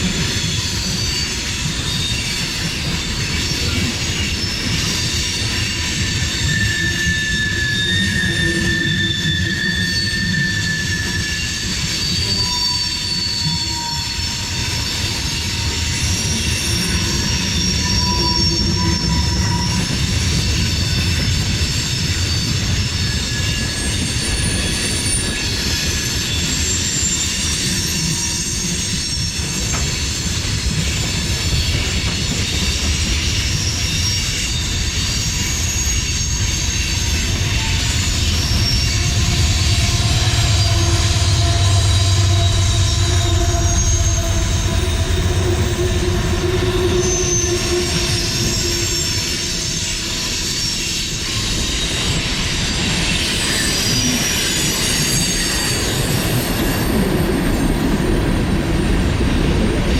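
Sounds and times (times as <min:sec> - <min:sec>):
high-pitched wheel squeals: 0:00.0 - 0:58.0
train wheels rumbling on rail: 0:00.0 - 0:59.9.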